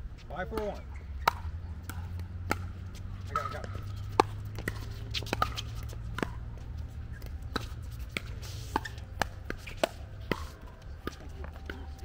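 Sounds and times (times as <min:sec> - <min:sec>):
ball bouncing on court: 0:00.4 - 0:12.0.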